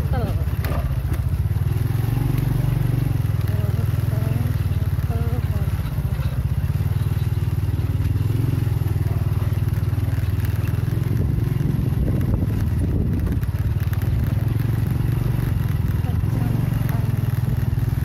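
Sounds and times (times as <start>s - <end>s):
motorcycle engine running: 0.0s - 18.0s
tyres crackling on dirt track: 0.0s - 18.0s.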